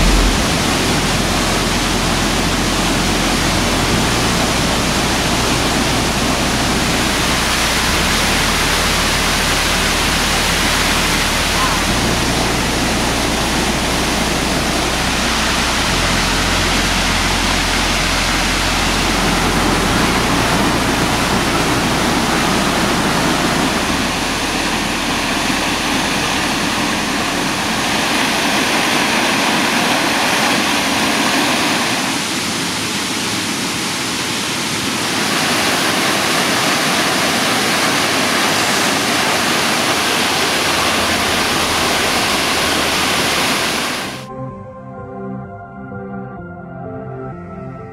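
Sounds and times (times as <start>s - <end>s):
waterfall rushing: 0.0s - 44.3s.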